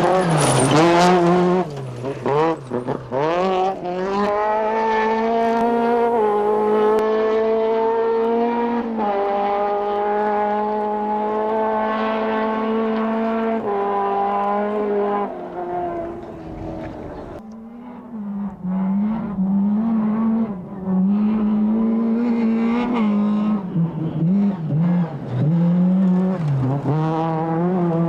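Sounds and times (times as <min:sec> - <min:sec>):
rally car engine revving high: 0:00.0 - 0:28.0.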